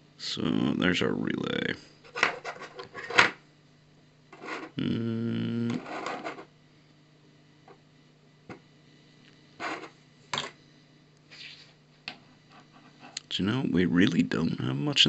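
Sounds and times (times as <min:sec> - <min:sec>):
steady pitched hum: 0:00.0 - 0:15.0.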